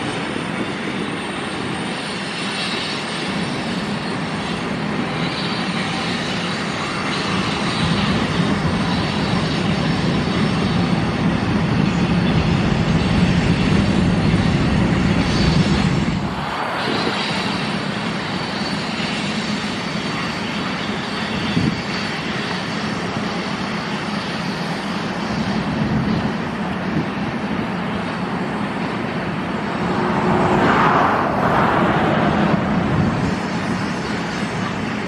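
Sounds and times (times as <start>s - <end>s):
diesel locomotive engine drone: 0.0s - 35.0s
train rumble: 0.0s - 35.0s.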